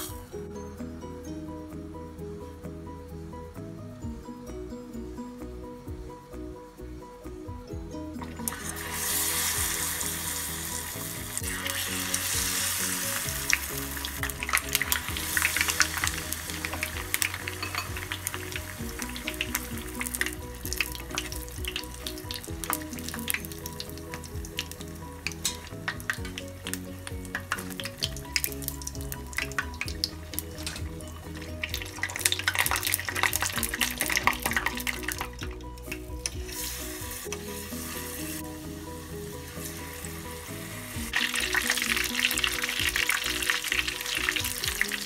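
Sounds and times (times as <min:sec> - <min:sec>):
deep-frying crackling sizzle: 0:00.0 - 0:00.3, 0:08.2 - 0:45.0
background music: 0:00.0 - 0:45.0.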